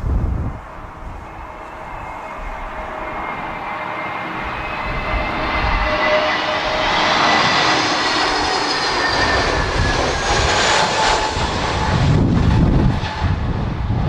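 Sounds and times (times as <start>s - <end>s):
jet airliner passing: 0.0s - 14.0s
wind rumbling on microphone: 0.0s - 14.0s.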